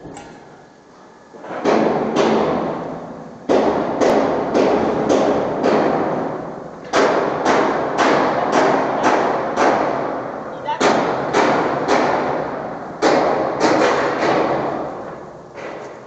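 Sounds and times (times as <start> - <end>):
hammer striking steel: 1.6 - 10.2, 10.8 - 15.9.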